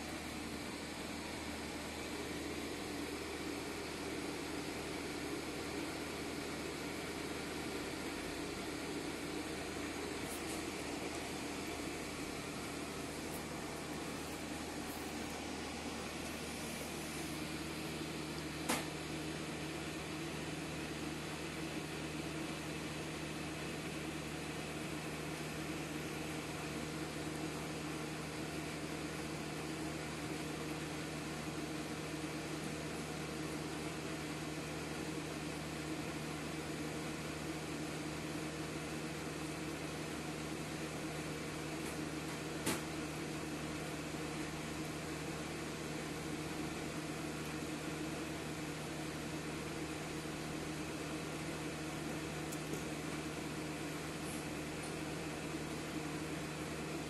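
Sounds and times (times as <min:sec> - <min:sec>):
air purifier fan humming: 0:00.0 - 0:57.0.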